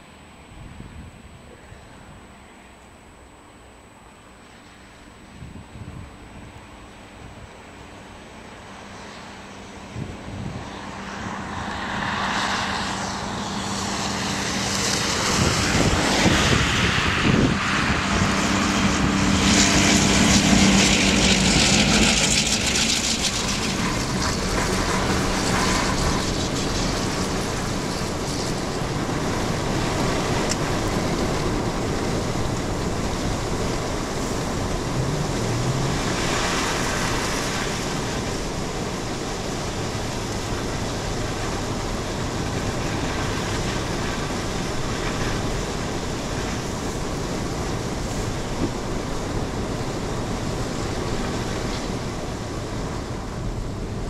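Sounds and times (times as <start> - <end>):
diesel engine hum: 0.0 - 54.0
moving car road and wind noise: 0.0 - 54.0.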